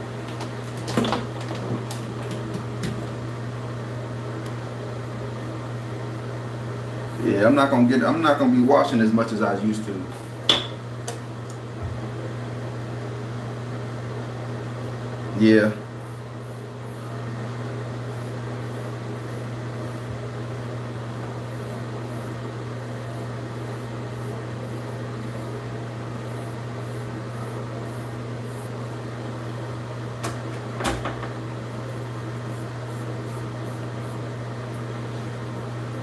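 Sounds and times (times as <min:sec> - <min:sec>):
fan humming: 0:00.0 - 0:36.0.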